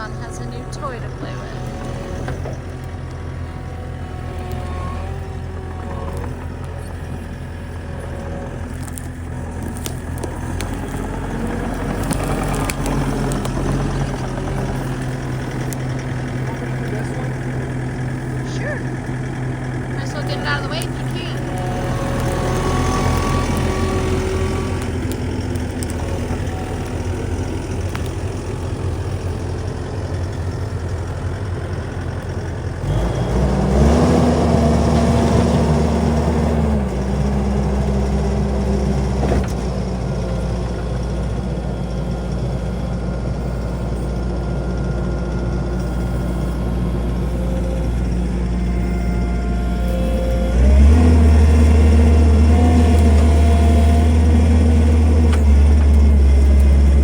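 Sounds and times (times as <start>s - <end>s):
loader engine revving: 0.0s - 57.0s.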